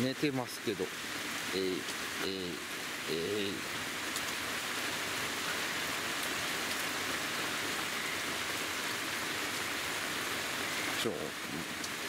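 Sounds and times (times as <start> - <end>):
heavy rain on a tent: 0.0 - 12.0.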